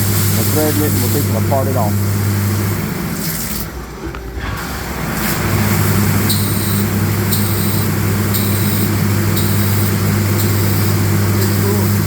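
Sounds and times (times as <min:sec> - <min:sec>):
lathe machine hum: 0:00.0 - 0:12.0.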